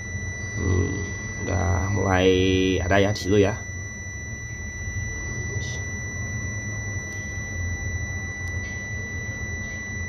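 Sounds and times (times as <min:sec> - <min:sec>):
high-pitched electrical whine: 0:00.0 - 0:10.0
low hum: 0:00.0 - 0:10.0.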